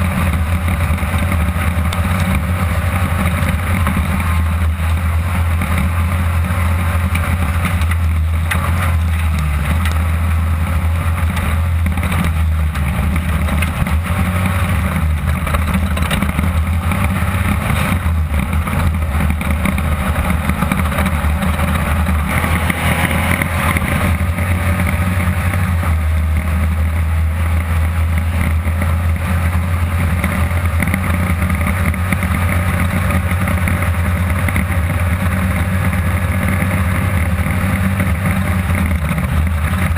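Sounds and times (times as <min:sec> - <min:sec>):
buggy engine under load: 0:00.0 - 0:39.9
chassis noise: 0:00.0 - 0:39.9.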